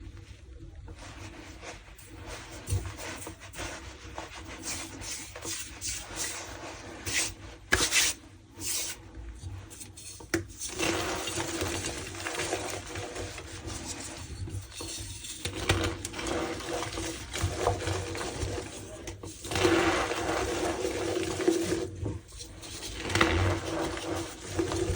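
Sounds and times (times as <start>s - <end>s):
chalk rubbed and crushed by hand: 1.0s - 24.9s.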